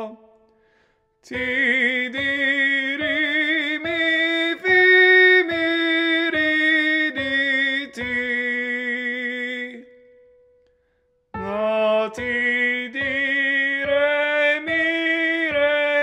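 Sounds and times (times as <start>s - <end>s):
person singing vocal warm-up: 0.0s - 0.6s, 1.2s - 10.0s, 11.4s - 16.0s.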